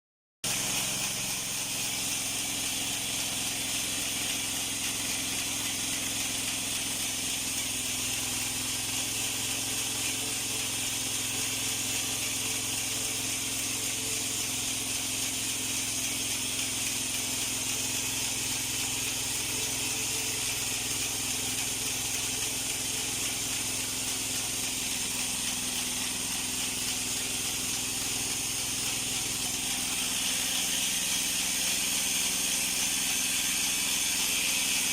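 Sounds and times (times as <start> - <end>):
bandsaw mill engine hum: 0.4 - 34.9
bandsaw mill hissing: 0.4 - 34.9.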